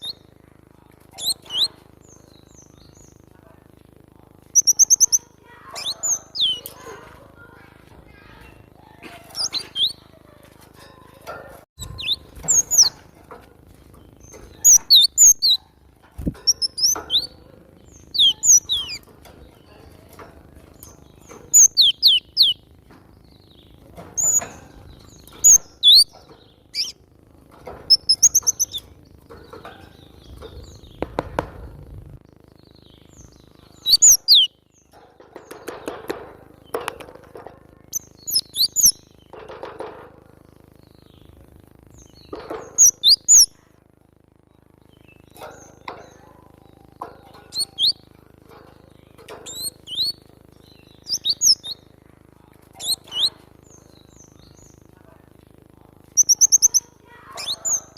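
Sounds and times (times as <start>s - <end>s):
bird chirping: 0.0s - 0.3s, 1.1s - 3.4s, 4.4s - 6.9s, 8.2s - 10.4s, 11.8s - 13.0s, 13.9s - 27.0s, 27.6s - 37.0s, 37.8s - 39.6s, 40.3s - 43.6s, 44.8s - 52.0s, 52.7s - 55.1s, 56.1s - 57.9s.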